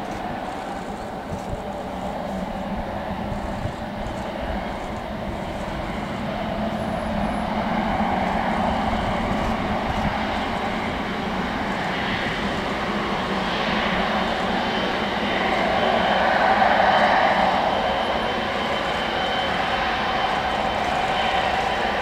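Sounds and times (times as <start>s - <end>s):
jet engines roaring and whining: 0.0s - 22.0s.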